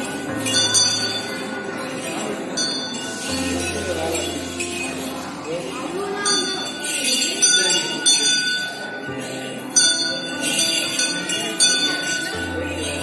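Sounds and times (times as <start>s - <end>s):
elephant neck bells jingling: 0.0s - 13.0s.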